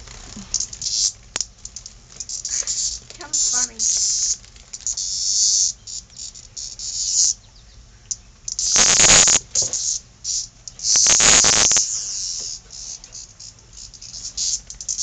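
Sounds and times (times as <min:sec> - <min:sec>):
cicada buzzing: 0:00.0 - 0:07.5, 0:08.1 - 0:15.0.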